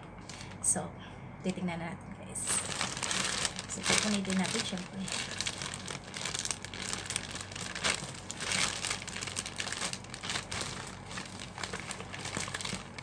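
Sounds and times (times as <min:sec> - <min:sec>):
plastic bag crinkling: 0:02.4 - 0:13.0.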